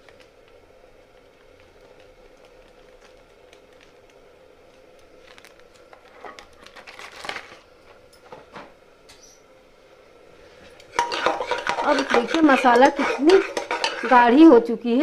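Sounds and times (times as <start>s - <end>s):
masala frying and spluttering: 0.0s - 8.1s, 10.1s - 15.0s
faint hum: 0.0s - 15.0s.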